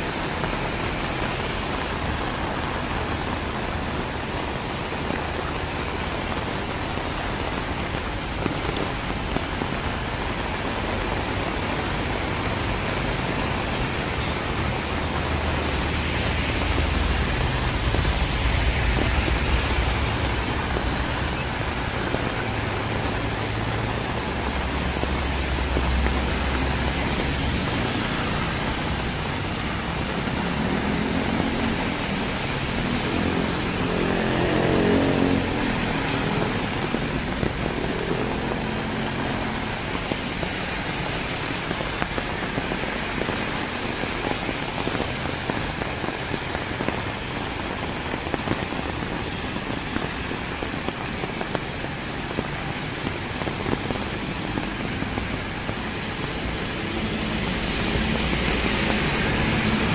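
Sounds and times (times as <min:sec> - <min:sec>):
heavy rain hissing: 0:00.0 - 0:59.9
vehicles passing: 0:00.0 - 0:59.9.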